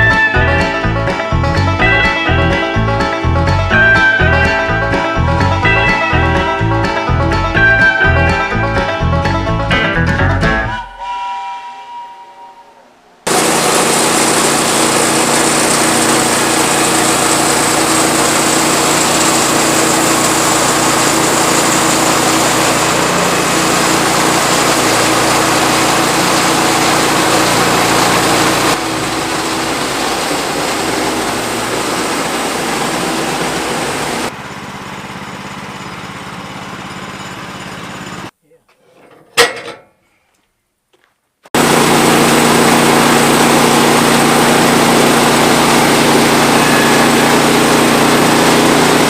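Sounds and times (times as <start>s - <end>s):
sawmill engine running: 0.0s - 10.7s, 13.2s - 38.3s, 41.6s - 49.0s.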